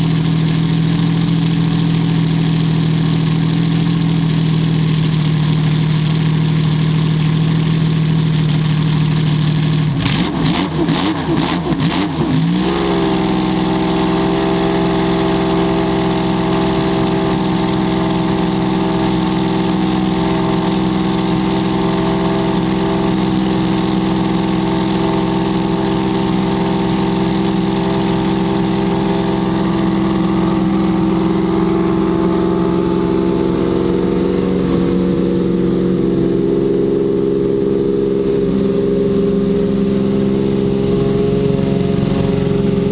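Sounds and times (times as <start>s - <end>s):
car engine idling and revving: 0.0s - 42.9s.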